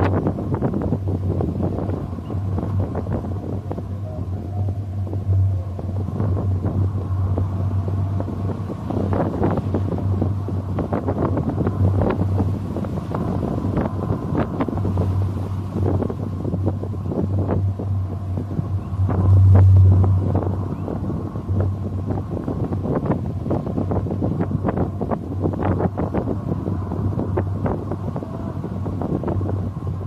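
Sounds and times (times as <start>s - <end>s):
steady low rumble: 0.0s - 30.0s
wind buffeting microphone: 0.0s - 30.0s.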